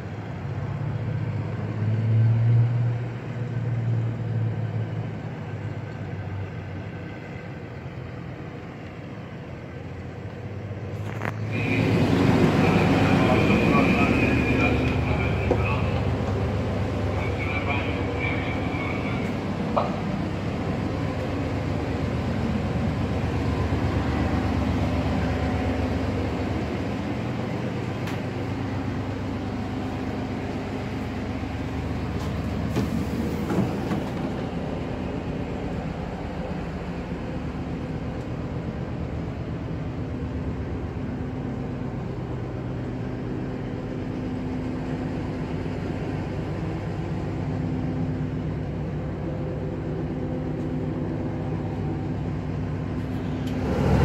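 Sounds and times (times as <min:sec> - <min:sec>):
train diesel engine droning: 0:00.0 - 0:54.0
train wheels rumbling on track: 0:00.0 - 0:54.0.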